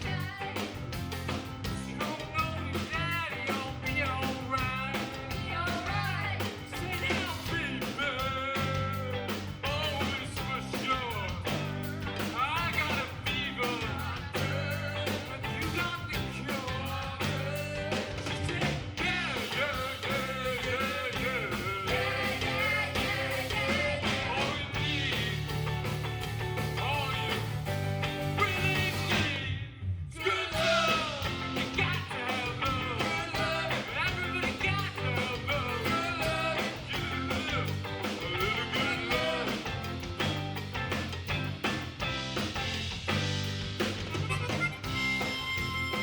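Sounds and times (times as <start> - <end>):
bending lead guitar melody: 0.0 - 29.4, 30.6 - 46.0
live rock band playing: 0.0 - 29.6, 30.3 - 46.0.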